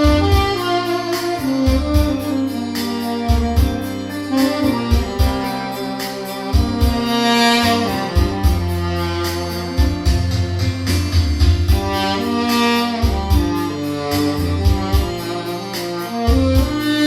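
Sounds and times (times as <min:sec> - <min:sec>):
tenor saxophone melody: 0:00.0 - 0:10.9, 0:11.6 - 0:17.0
backing track with bass and beat: 0:00.0 - 0:17.0.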